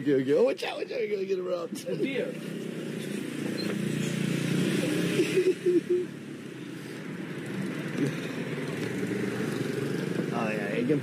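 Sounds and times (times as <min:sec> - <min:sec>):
scooter and motorbike engines: 0:01.4 - 0:11.0.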